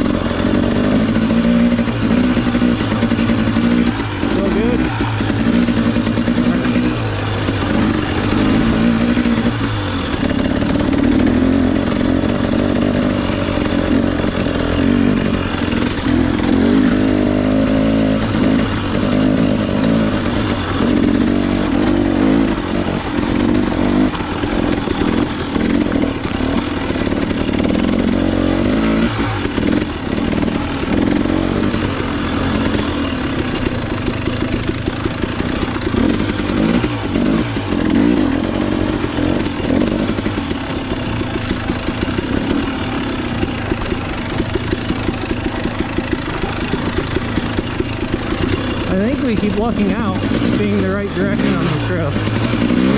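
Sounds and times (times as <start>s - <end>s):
clatter over rough ground: 0.0s - 52.9s
dirt bike engine running: 0.0s - 52.9s.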